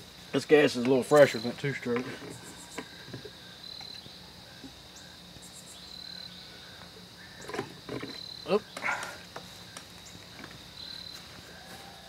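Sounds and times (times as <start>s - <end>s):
insect chirping trill: 0.0s - 12.0s.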